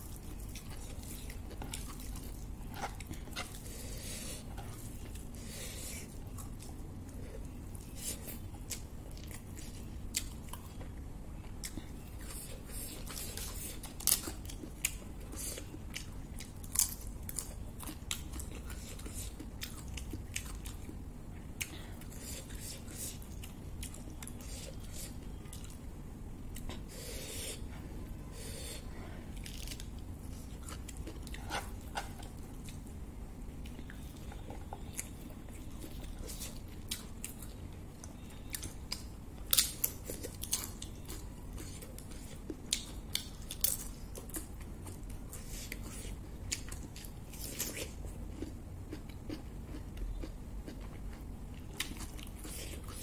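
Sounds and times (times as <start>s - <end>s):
chewing food: 0.0s - 25.9s, 29.3s - 32.9s, 33.5s - 53.0s
low steady hum: 0.0s - 53.0s.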